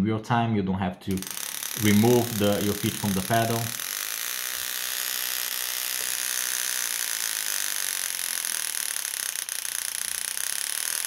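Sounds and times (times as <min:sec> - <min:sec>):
engraving handpiece buzzing: 0:01.1 - 0:11.0.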